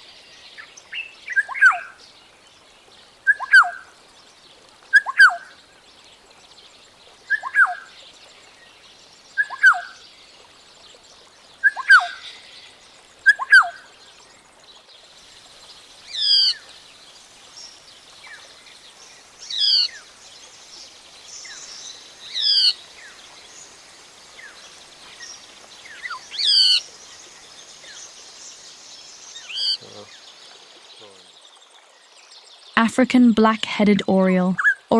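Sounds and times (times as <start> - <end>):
faint background hiss: 0.0 - 34.9.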